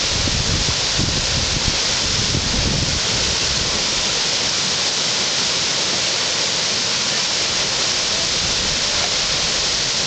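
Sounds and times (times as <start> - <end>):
whitewater rapid rushing: 0.0 - 10.0.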